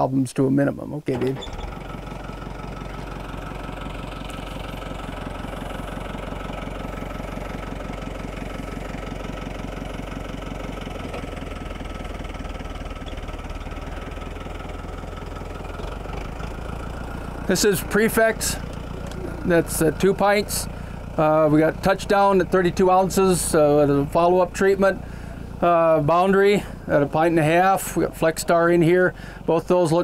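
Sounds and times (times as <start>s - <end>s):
tractor engine running: 1.1s - 30.0s.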